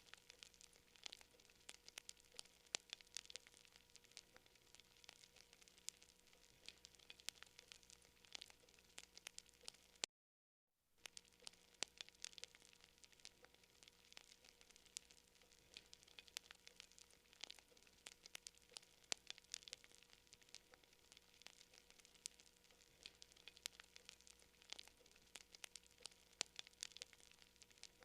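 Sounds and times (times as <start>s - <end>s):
campfire crackling: 0.0s - 10.0s, 11.0s - 28.0s
faint steady hiss: 0.0s - 10.1s, 10.9s - 28.0s.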